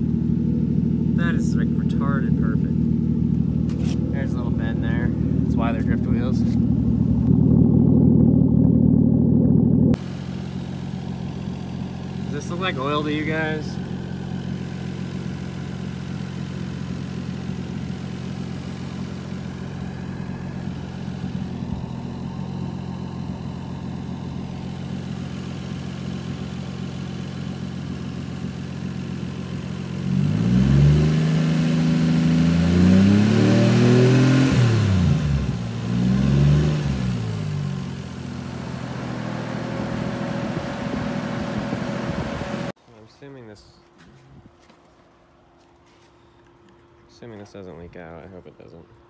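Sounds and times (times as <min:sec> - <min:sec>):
car engine idling and revving: 0:00.0 - 0:42.8.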